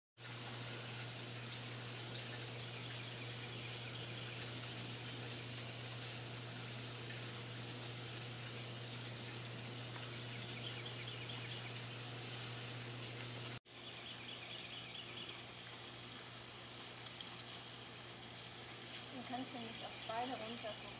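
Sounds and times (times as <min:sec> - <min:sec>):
outdoor background hiss: 0:00.2 - 0:20.9.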